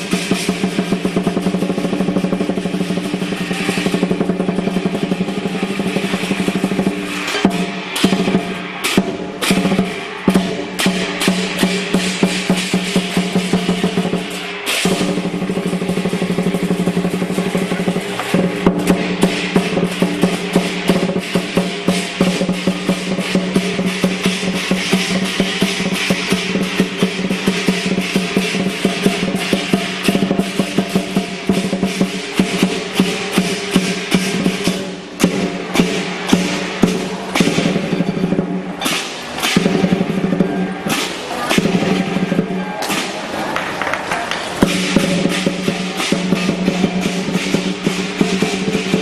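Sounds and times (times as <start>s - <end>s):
cymbals and gongs ringing: 0.0s - 43.8s, 44.4s - 49.0s
large drum rolls: 0.0s - 49.0s.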